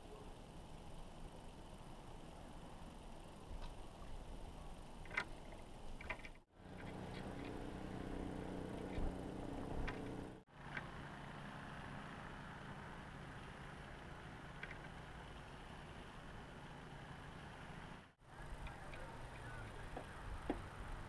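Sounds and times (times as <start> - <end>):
low motor hum: 0.0 - 21.0.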